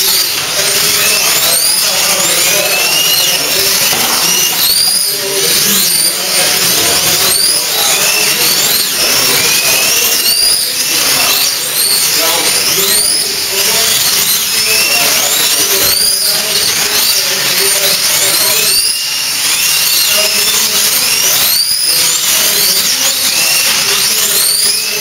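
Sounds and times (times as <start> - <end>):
slot car motors whining: 0.0 - 25.0.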